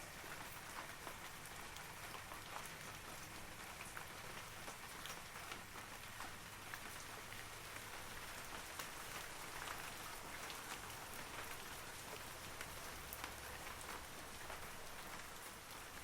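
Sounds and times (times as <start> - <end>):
rain falling on trees: 0.0 - 16.0.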